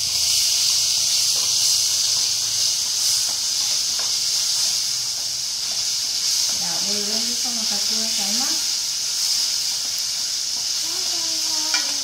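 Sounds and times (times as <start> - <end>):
tomatoes hissing in a pot: 0.0 - 12.0.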